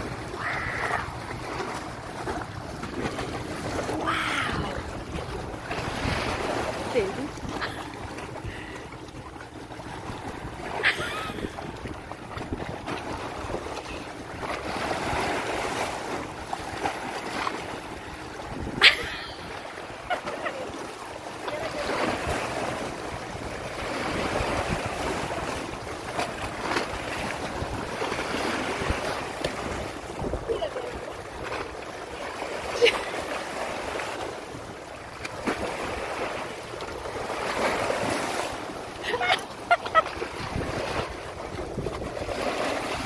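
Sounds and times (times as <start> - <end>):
small waves lapping against rocks: 0.0 - 43.0.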